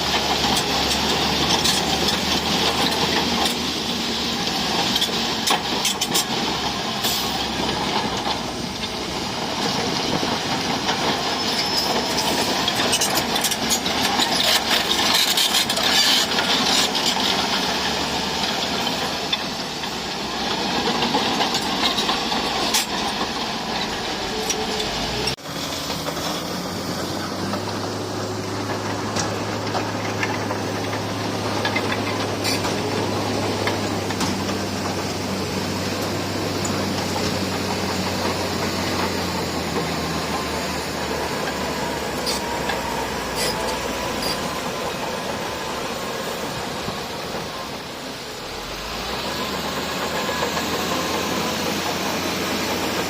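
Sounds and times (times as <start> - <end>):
diesel engine under load: 0.0 - 53.0
steel tracks clanking: 0.0 - 53.0.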